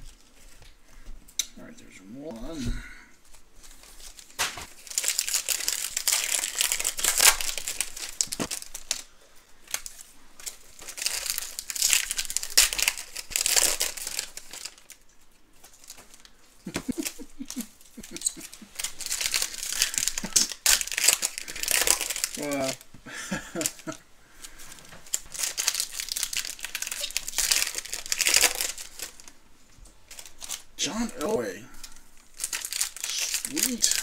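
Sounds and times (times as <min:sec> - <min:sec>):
card pack wrappers crackling: 0:03.2 - 0:34.0.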